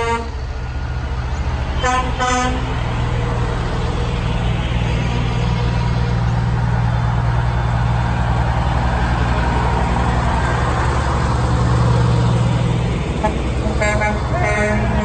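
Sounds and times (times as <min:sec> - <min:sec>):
diesel trucks rumbling past: 0:00.0 - 0:15.0.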